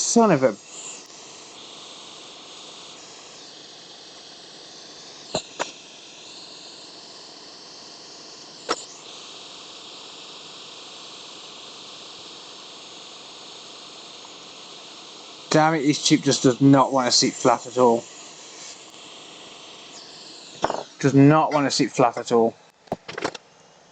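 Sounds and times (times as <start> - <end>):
hot air station hissing: 0.0 - 23.9.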